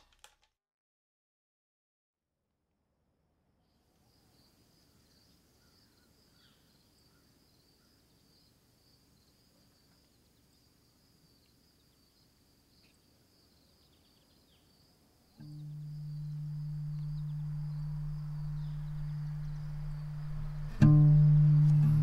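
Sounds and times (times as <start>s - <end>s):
crickets trilling: 4.0s - 21.9s
soft bird chirps: 4.0s - 22.0s.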